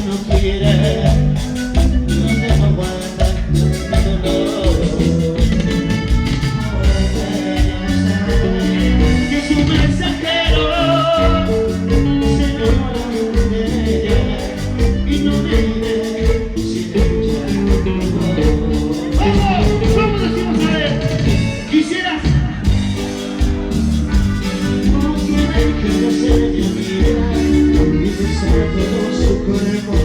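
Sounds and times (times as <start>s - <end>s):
live band playing dance music: 0.0s - 30.0s.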